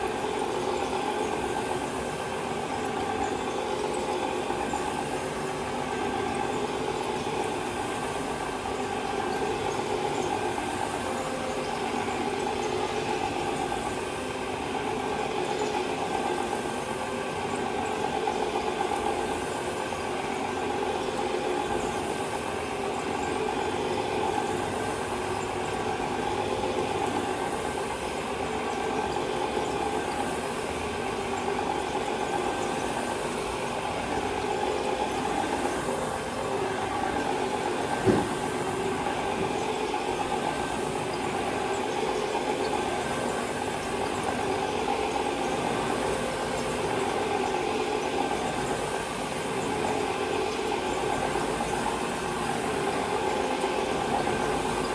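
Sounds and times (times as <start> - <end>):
carpet cleaning machine drone: 0.0 - 54.9.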